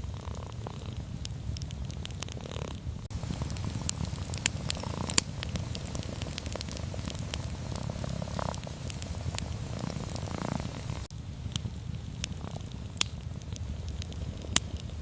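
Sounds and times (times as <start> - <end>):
cat purring: 0.0 - 1.0, 2.3 - 11.1, 11.7 - 15.0
wood fire crackling and popping: 0.0 - 15.0.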